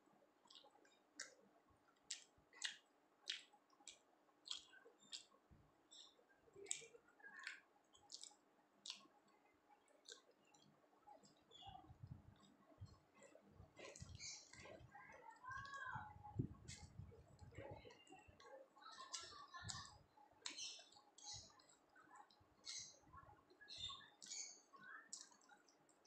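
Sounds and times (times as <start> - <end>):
person chewing soft food: 0.3 - 26.0.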